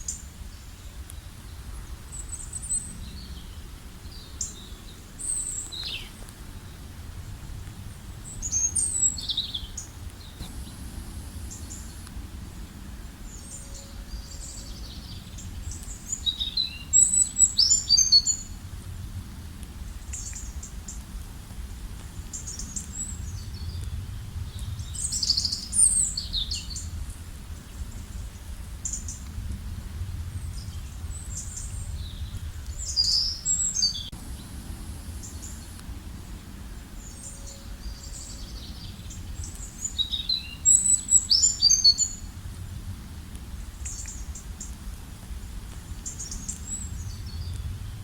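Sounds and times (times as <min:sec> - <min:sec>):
small birds chirping: 0:00.0 - 0:18.6, 0:19.8 - 0:29.5, 0:30.2 - 0:42.4, 0:43.5 - 0:48.0
low background rumble: 0:00.0 - 0:48.0.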